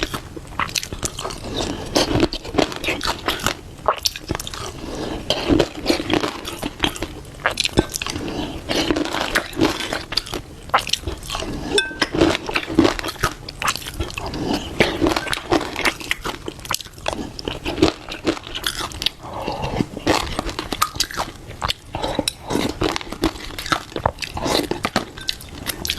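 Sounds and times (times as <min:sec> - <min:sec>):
person chewing crunchy food: 0:00.0 - 0:25.9.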